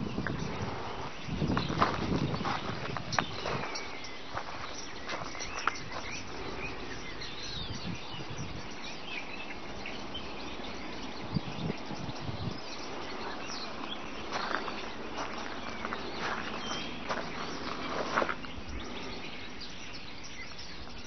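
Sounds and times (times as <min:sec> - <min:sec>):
bird chirps: 0:00.0 - 0:21.0
steady background hiss: 0:00.0 - 0:21.0.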